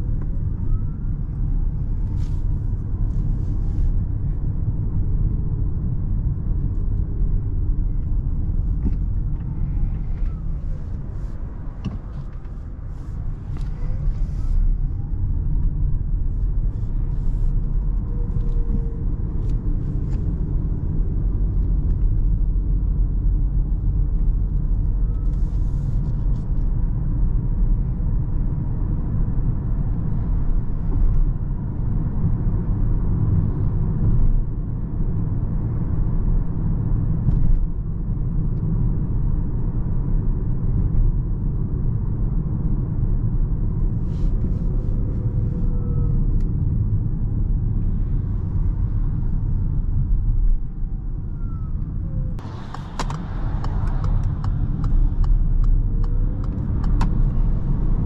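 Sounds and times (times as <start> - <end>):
tyre road noise rumble: 0.0 - 58.0.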